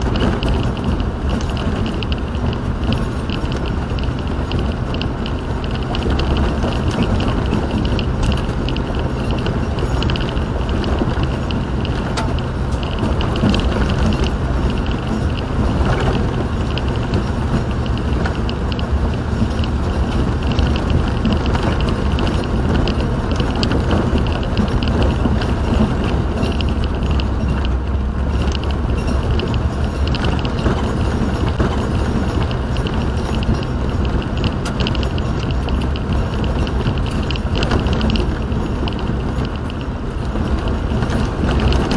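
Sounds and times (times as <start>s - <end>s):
car cabin road rumble: 0.0s - 41.9s.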